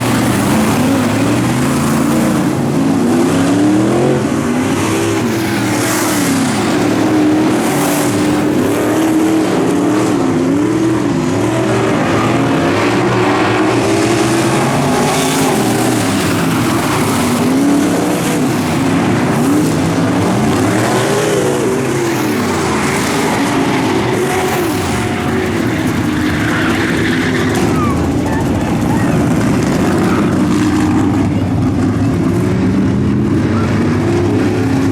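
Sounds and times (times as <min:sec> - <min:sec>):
race car engines revving: 0:00.0 - 0:34.9.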